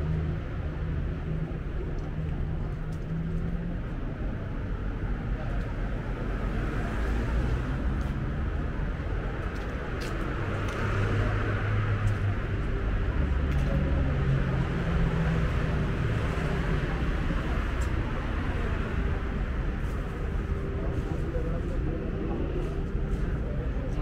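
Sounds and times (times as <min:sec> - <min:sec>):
cars and motorbikes going by: 0:00.0 - 0:24.0.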